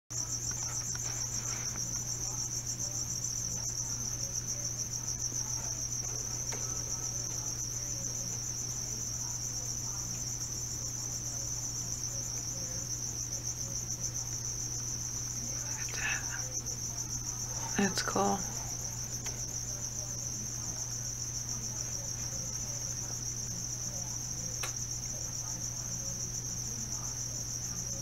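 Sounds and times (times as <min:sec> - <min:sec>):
high insect trill: 0:00.1 - 0:28.0.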